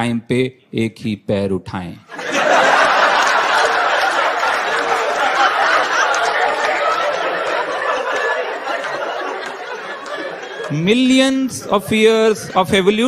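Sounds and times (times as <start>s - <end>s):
audience laughing: 2.1s - 13.0s.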